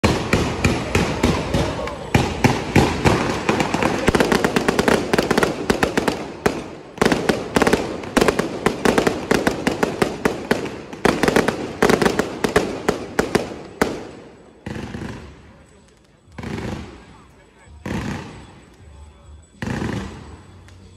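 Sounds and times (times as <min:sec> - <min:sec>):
fireworks crackling pops: 0:00.0 - 0:17.1.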